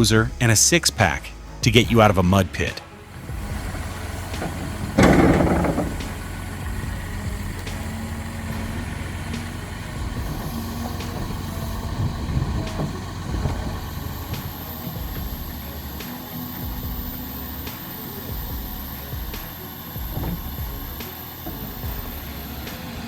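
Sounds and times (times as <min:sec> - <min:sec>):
heavy engine low rumble: 0:00.0 - 0:23.0
loud burst of noise: 0:01.9 - 0:23.0.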